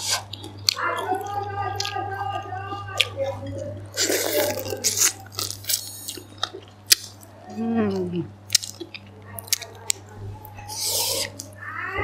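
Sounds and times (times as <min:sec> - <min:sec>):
crunching and chewing: 0:00.0 - 0:11.6.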